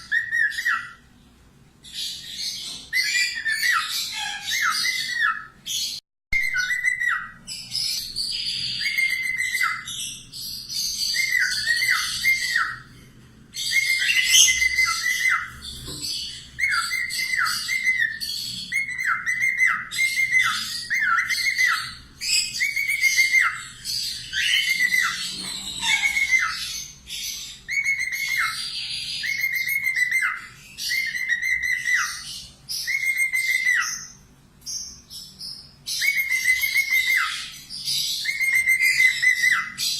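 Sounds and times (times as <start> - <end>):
parrot whistling calls: 0.0 - 1.0, 2.9 - 10.1, 10.8 - 12.9, 13.6 - 34.2, 36.0 - 39.9.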